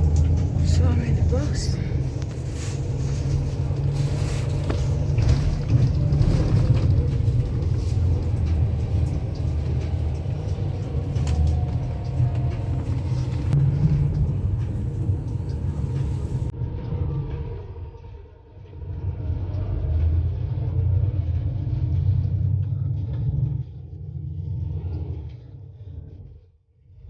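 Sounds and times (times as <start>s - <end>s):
road noise: 0.0s - 25.3s
bus engine rumble: 0.0s - 25.8s.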